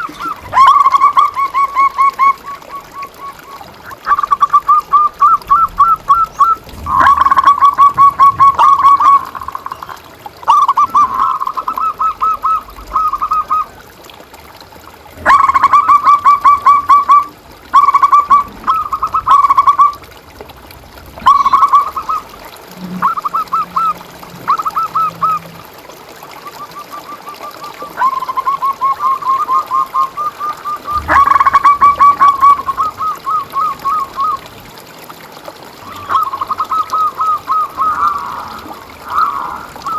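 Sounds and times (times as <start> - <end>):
doves cooing: 0.0 - 14.1, 14.8 - 39.9.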